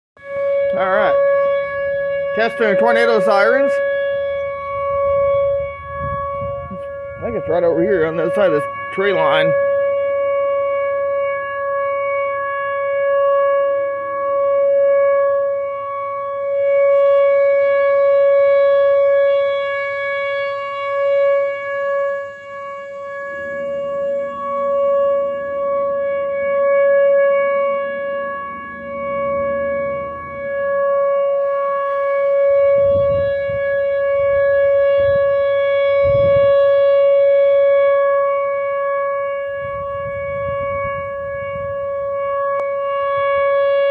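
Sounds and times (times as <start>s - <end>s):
warning siren wailing: 0.2s - 43.9s.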